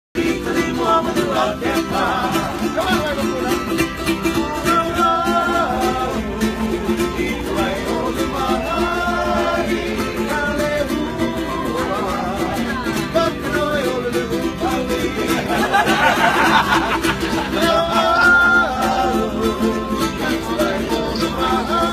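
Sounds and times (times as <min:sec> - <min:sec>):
men singing together: 0:00.2 - 0:21.9
strummed string instrument: 0:00.2 - 0:21.9.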